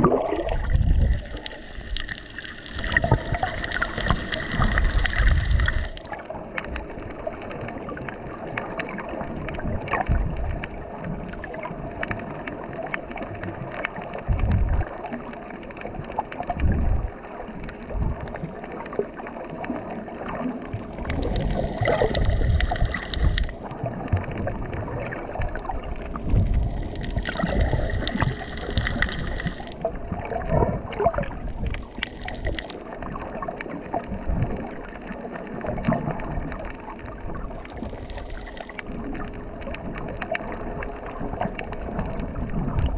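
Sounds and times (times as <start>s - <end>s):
muffled underwater water noise: 0.0s - 42.9s.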